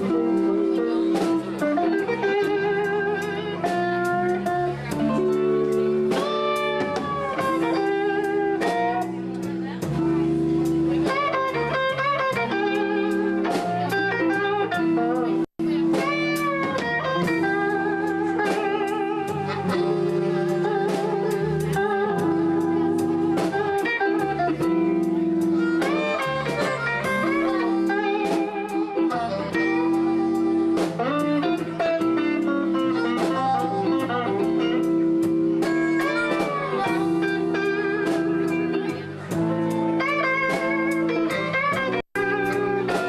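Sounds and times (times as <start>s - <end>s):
bending guitar lines: 0.0s - 43.0s
live blues band playing: 0.0s - 43.0s.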